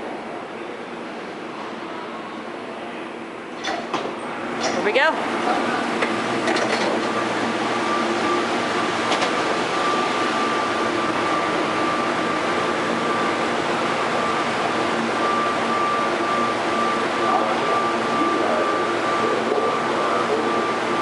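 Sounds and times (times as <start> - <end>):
train ventilation hum and hiss: 0.0 - 21.0.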